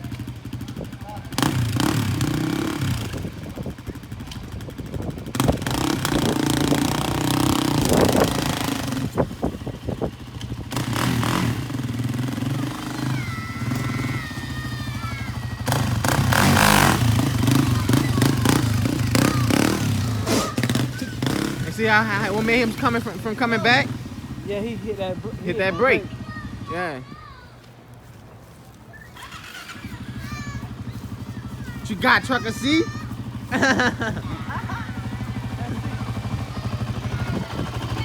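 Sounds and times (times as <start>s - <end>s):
quad bike engine revving: 0.0s - 27.0s, 29.2s - 38.0s.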